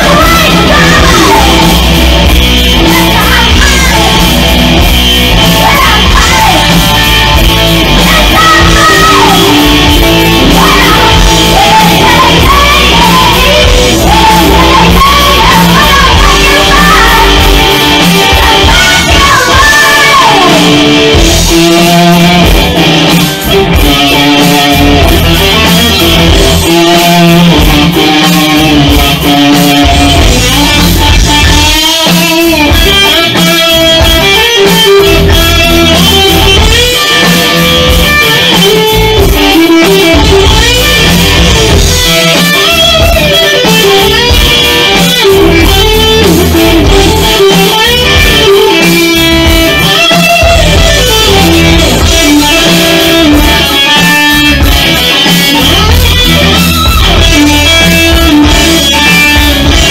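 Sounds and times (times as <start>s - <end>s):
heavy low-end beat: 0.0s - 59.9s
loud electric guitar: 0.0s - 59.9s.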